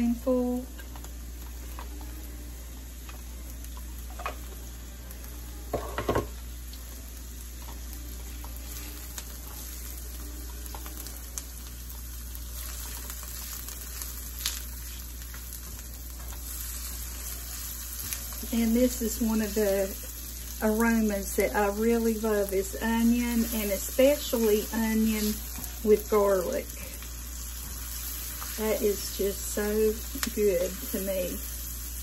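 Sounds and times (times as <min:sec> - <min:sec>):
onion sizzling in a pan: 0:00.0 - 0:32.0.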